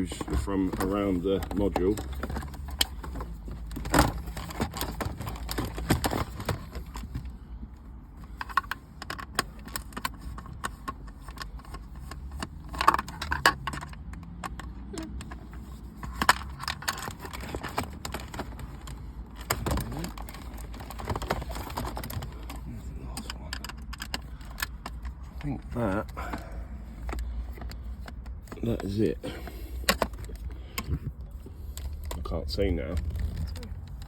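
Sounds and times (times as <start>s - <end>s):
plastic trim rattling: 0.0s - 7.3s, 8.3s - 31.1s.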